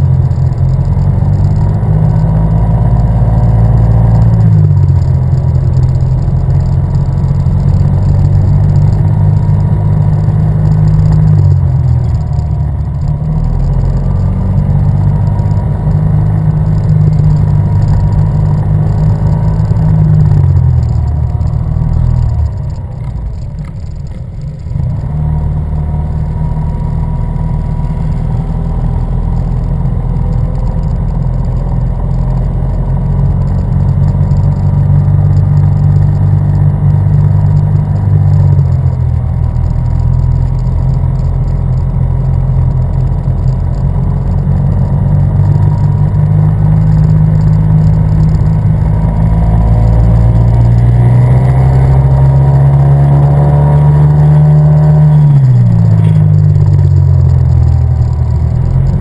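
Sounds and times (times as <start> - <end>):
scooter engine running: 0.0 - 59.0.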